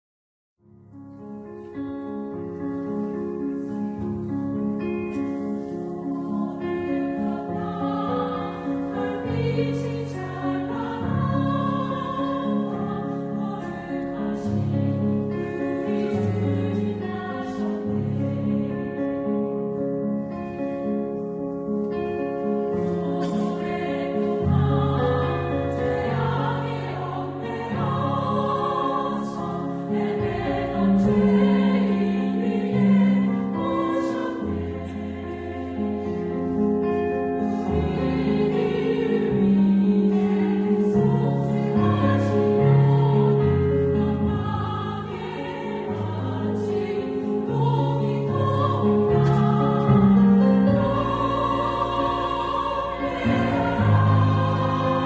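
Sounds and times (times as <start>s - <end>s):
choir singing a hymn: 1.5s - 55.0s.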